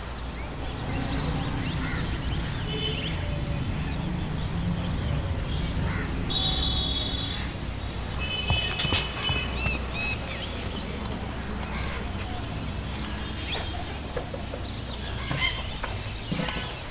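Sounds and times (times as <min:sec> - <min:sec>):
birds chirping: 0:00.0 - 0:16.9
low outdoor rumble: 0:00.0 - 0:16.9.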